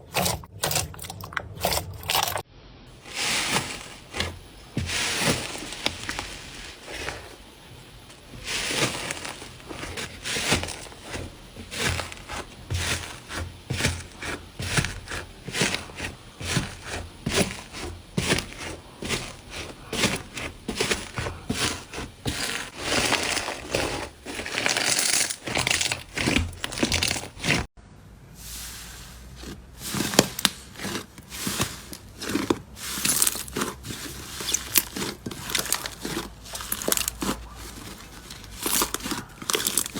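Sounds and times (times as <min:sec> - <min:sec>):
slime squishing: 0:00.0 - 0:27.7, 0:28.3 - 0:39.9.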